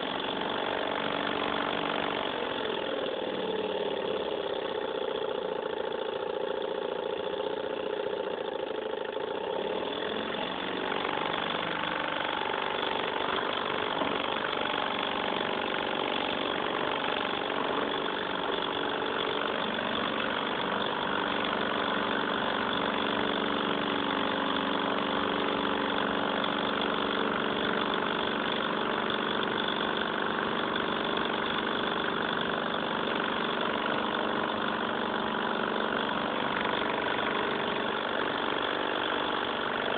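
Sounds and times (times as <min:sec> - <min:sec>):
model engine whirring: 0:00.0 - 0:39.9.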